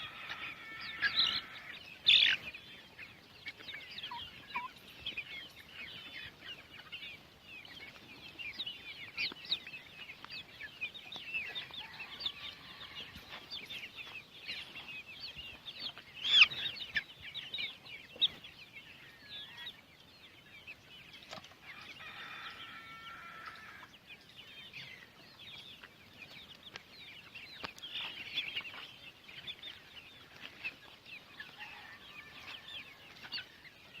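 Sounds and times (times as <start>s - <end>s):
flock of chickens calling: 0.0s - 34.0s.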